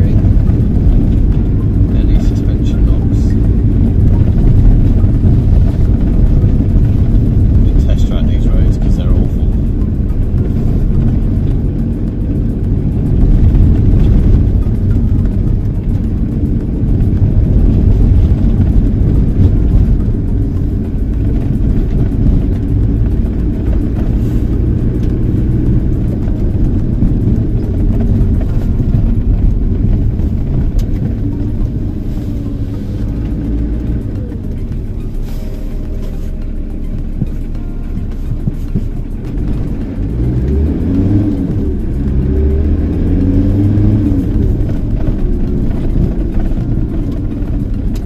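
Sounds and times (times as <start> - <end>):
road and tyre rumble: 0.0 - 48.0
van engine running: 0.0 - 48.0.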